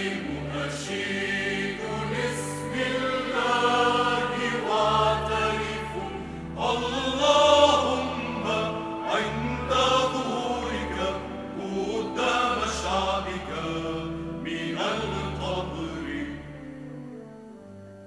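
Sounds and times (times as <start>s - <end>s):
choir singing a hymn: 0.0s - 16.7s
low organ bass: 0.0s - 17.4s.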